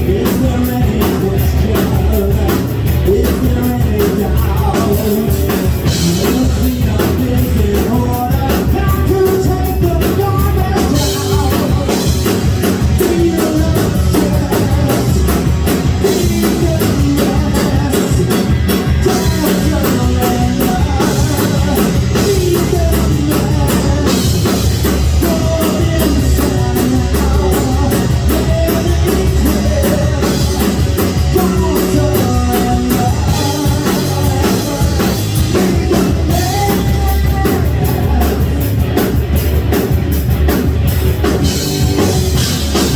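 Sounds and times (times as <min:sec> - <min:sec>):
person singing: 0:00.0 - 0:39.2
drum kit: 0:00.0 - 0:42.9
guitar: 0:00.0 - 0:42.9.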